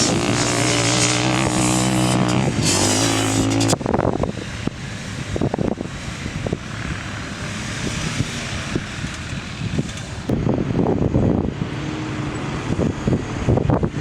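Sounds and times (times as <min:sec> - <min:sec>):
off-road vehicle engine: 0:00.0 - 0:14.0
wind on microphone: 0:00.0 - 0:14.0.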